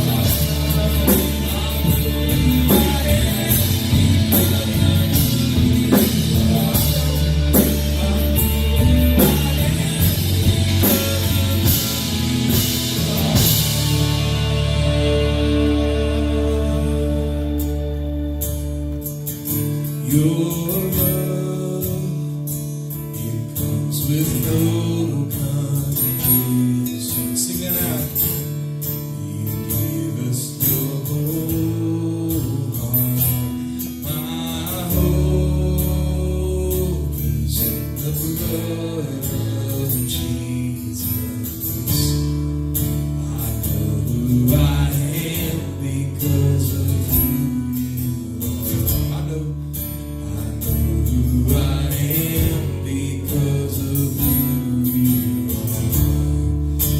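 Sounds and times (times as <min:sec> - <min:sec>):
deep bass: 0:00.0 - 0:21.5, 0:31.4 - 0:56.9
acoustic guitar strumming: 0:00.0 - 0:56.9.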